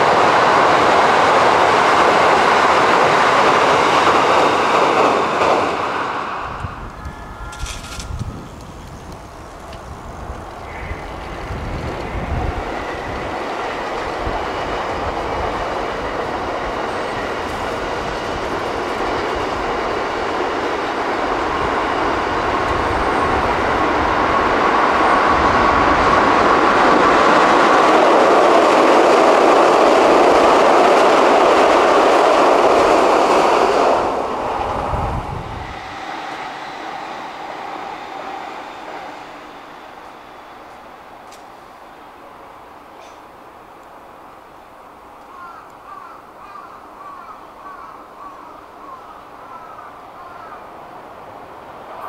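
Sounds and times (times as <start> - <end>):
train crossing steel bridge: 0.0 - 52.0.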